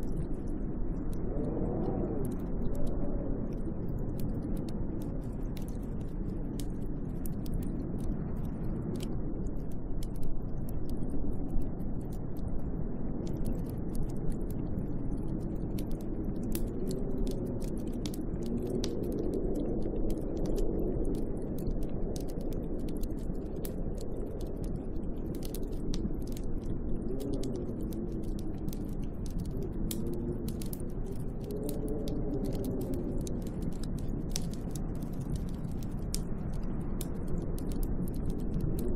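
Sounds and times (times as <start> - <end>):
wind howling: 0.0 - 38.9
small sharp ticks: 1.8 - 38.9.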